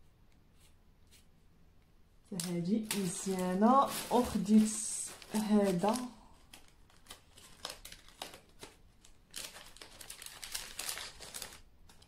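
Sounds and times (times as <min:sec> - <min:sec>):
plastic packaging crinkling: 0:02.3 - 0:12.0.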